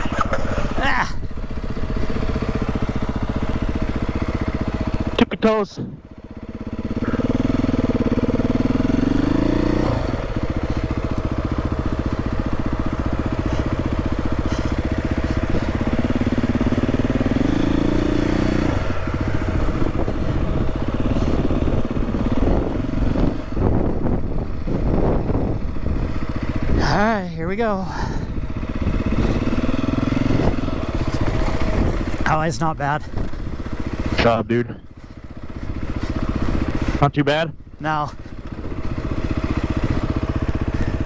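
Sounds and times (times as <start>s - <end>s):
motorbike engine running: 0.0s - 41.0s.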